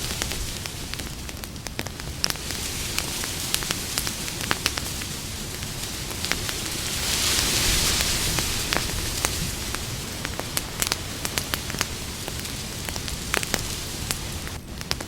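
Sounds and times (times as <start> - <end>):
burning wood hiss: 0.0 - 15.0
campfire crackling: 0.0 - 15.0.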